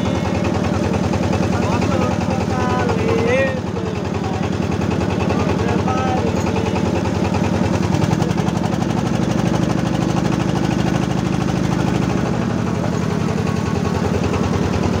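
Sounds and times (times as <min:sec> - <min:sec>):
motorboat engine running: 0:00.0 - 0:15.0
water rushing along hull: 0:00.0 - 0:15.0.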